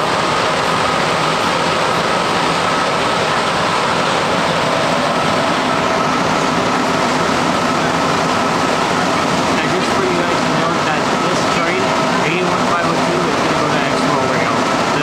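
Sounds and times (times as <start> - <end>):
high whine: 0.0 - 15.0
metro car tyres roaring: 0.0 - 15.0.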